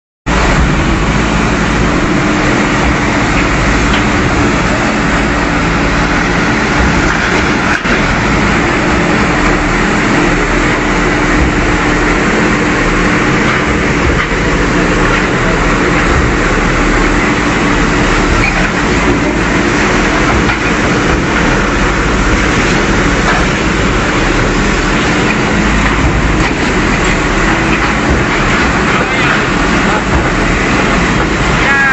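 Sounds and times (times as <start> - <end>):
bulldozer diesel engine running: 0.3 - 31.9.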